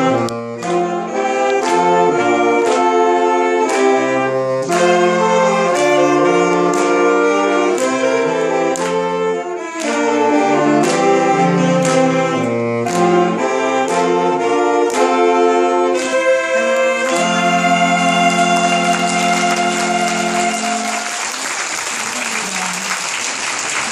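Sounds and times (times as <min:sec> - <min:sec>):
saxophone ensemble playing: 0:00.0 - 0:23.2.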